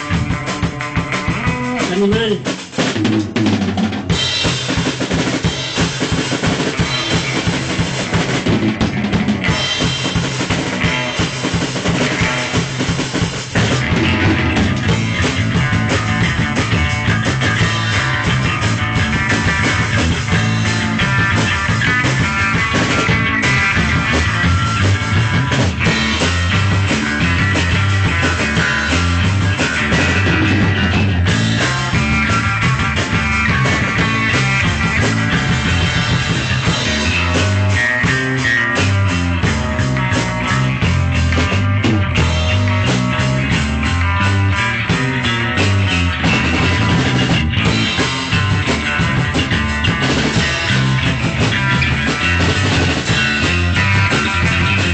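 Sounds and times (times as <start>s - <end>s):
drum kit playing: 0.0s - 54.9s
loud rock music: 0.0s - 54.9s.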